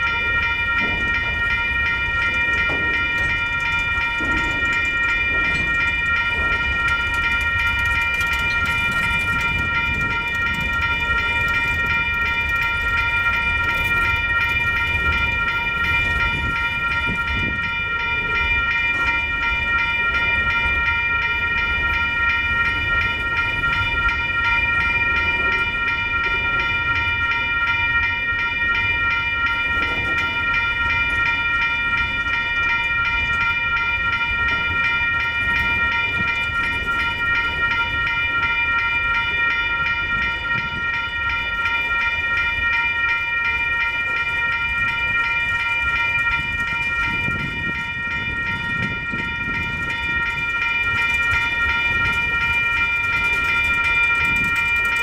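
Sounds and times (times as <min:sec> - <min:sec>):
crossing bell ringing: 0:00.0 - 0:55.0
train wheels rumbling on rails: 0:00.0 - 0:55.0.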